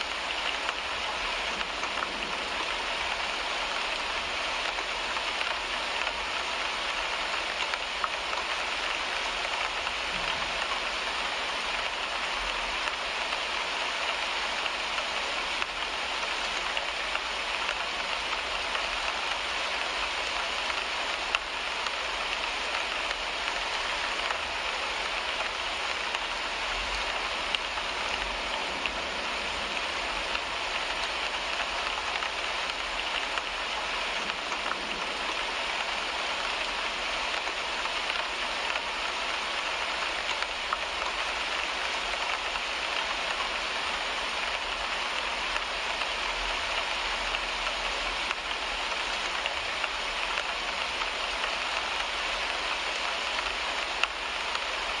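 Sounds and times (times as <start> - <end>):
rain on a car windshield: 0.0 - 55.0.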